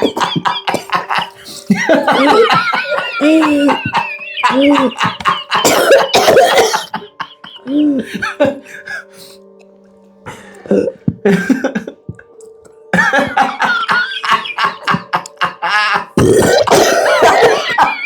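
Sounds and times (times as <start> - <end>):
person coughing and gagging: 0.0 - 9.1, 10.6 - 12.3, 12.9 - 18.0
background music with held tones: 0.0 - 18.0.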